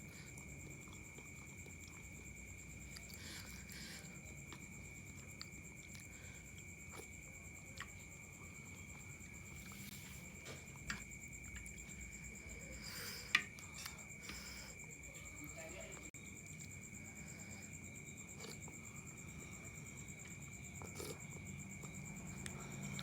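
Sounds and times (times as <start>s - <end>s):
person chewing noodles: 0.0s - 14.8s, 16.4s - 23.0s
crickets chirring: 0.0s - 23.0s.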